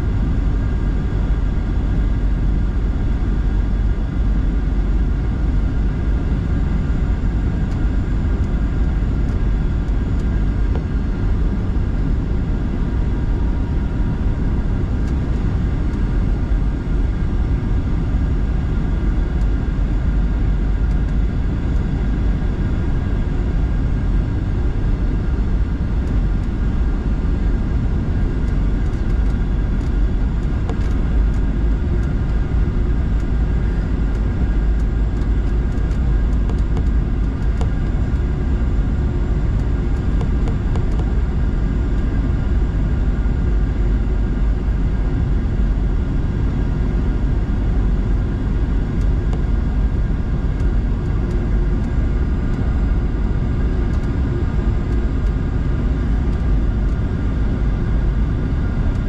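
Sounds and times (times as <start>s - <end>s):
jet engines and airflow rumble: 0.0s - 59.0s.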